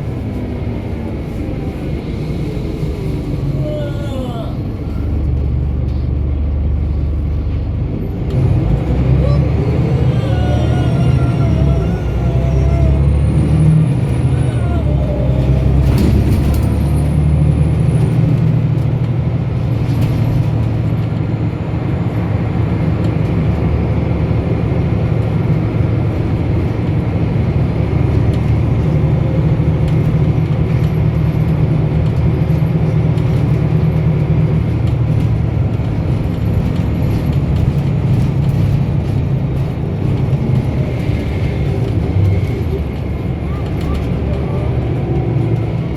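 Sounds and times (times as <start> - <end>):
bus diesel engine drone: 0.0 - 45.9
road noise: 0.0 - 45.9.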